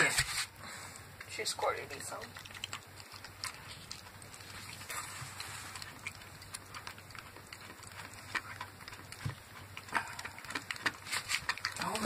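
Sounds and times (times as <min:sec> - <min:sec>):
dog licking puppy: 0:01.2 - 0:12.0.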